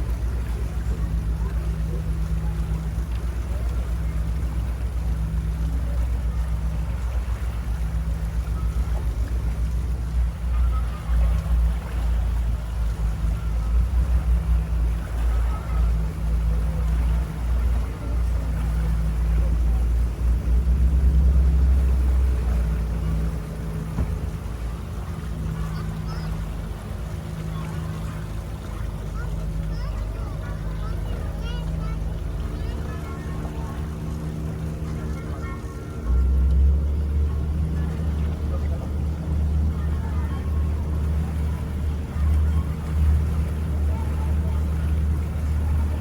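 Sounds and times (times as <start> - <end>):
boat engine throbbing hum: 0.0 - 46.0.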